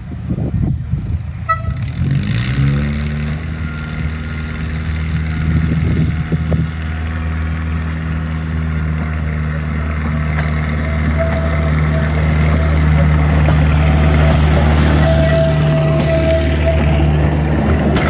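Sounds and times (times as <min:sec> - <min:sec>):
engine starting and running: 0:00.0 - 0:18.0.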